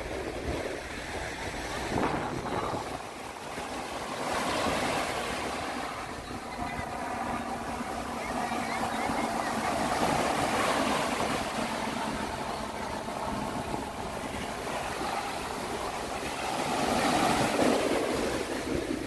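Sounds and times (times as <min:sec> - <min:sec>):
waves breaking on sandy beach: 0:00.0 - 0:19.0.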